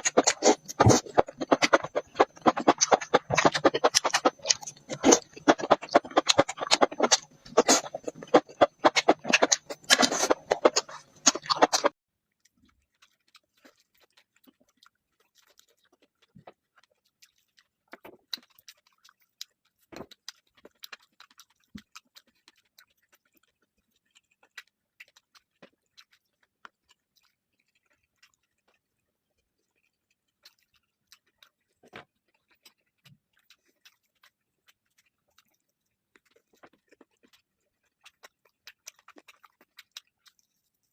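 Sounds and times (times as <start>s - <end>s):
loud crunching and chewing: 0.0s - 40.9s.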